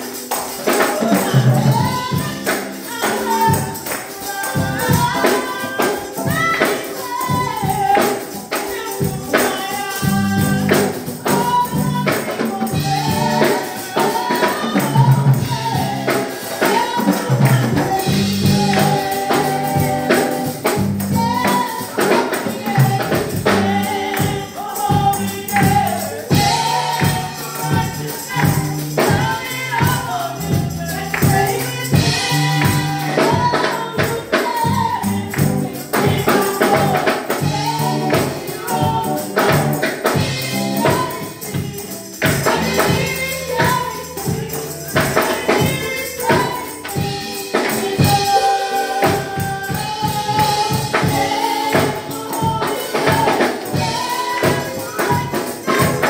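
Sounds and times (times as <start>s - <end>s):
tambourine rhythm: 0.0s - 56.0s
voices singing: 0.0s - 56.0s.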